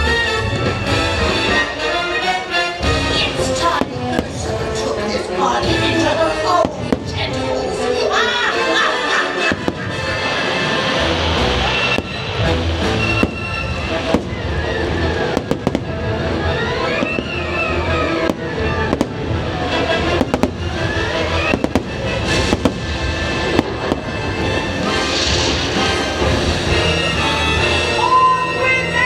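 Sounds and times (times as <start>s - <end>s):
fireworks bangs and crackles: 0.0s - 8.4s, 9.3s - 28.1s
loud show music: 0.0s - 29.0s.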